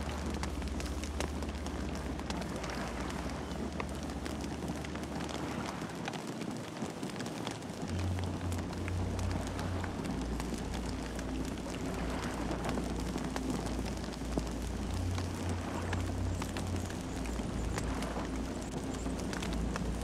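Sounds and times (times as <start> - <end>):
low rumble: 0.0 - 6.2, 7.6 - 20.0
campfire crackling and popping: 0.0 - 20.0.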